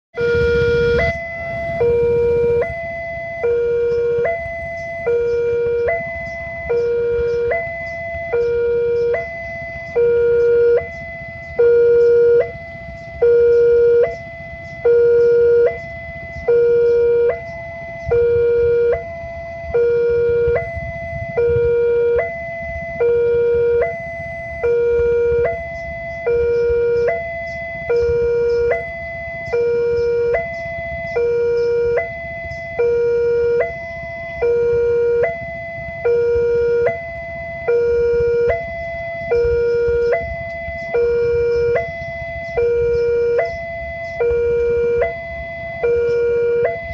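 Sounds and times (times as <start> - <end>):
level crossing alarm two-tone signal: 0.2 - 46.9
low rumble: 0.2 - 46.9.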